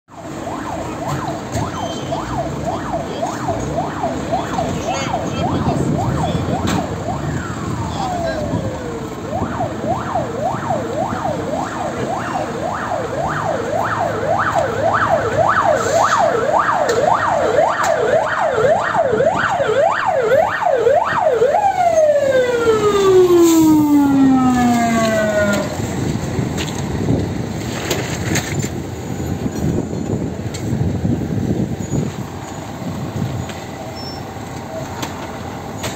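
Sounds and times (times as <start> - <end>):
fire engine siren wailing: 0.1 - 35.9
street noise: 0.1 - 35.9.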